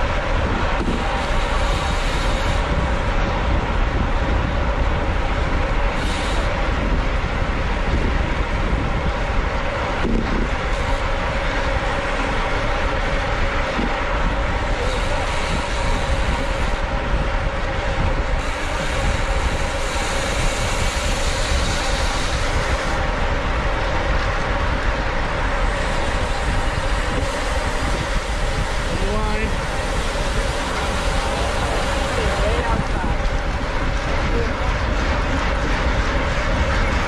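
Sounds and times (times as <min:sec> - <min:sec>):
wind rush over microphone: 0:00.0 - 0:37.0.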